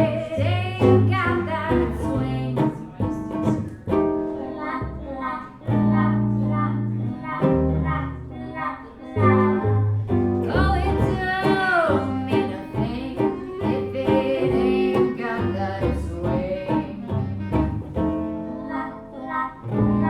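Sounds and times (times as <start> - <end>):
small band playing live: 0.0 - 8.4, 9.1 - 20.0.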